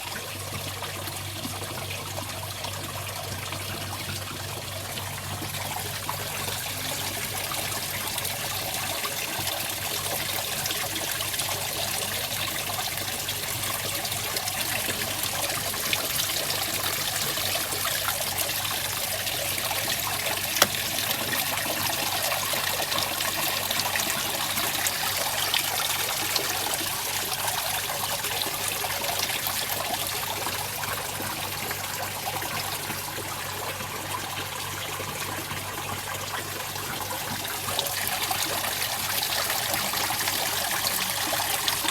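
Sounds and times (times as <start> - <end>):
water trickling into pond: 0.0 - 41.9.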